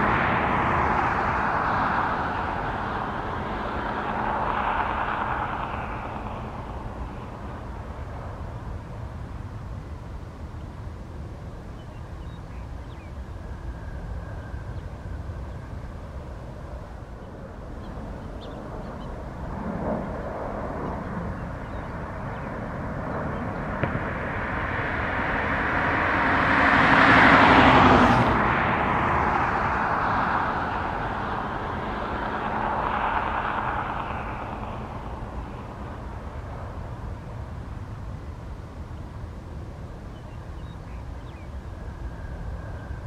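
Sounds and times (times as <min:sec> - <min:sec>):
sweeping whoosh of passing jet: 0:00.0 - 0:10.0, 0:12.8 - 0:38.6
jet engines rumbling: 0:00.0 - 0:43.0.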